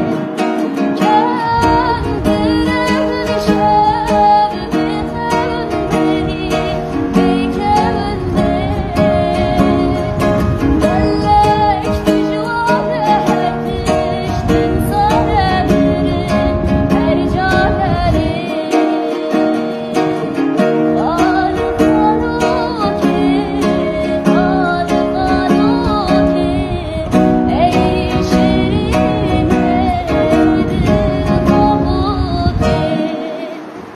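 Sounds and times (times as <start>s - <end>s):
acoustic guitar strumming: 0.0s - 33.9s
woman singing: 0.0s - 33.9s.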